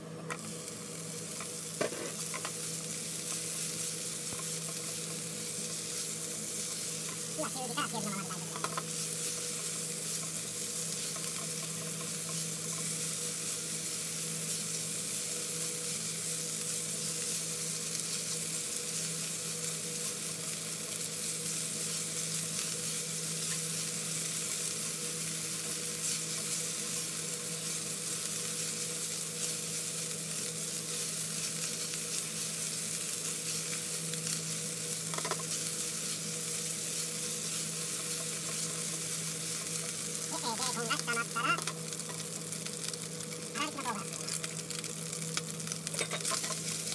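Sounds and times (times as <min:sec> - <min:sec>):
bacon and onion sizzling in oil: 0:00.0 - 0:46.9.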